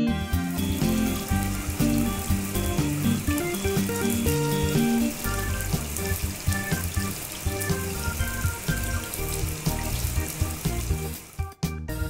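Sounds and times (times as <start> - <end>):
cheerful background music: 0.0 - 12.0
pressure washer spraying: 0.2 - 11.5.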